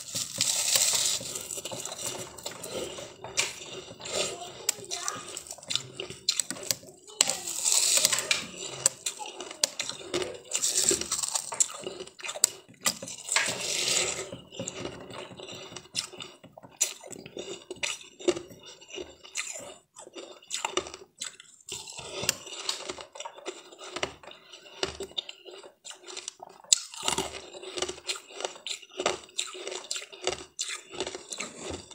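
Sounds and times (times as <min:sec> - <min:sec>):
ice being chewed crunching: 0:00.0 - 0:31.9.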